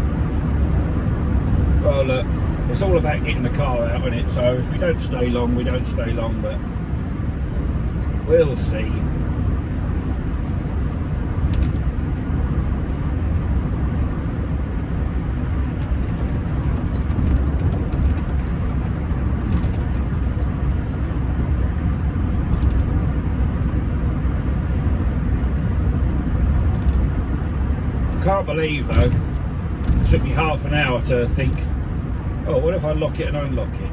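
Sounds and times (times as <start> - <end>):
car cabin road and engine rumble: 0.0 - 33.9.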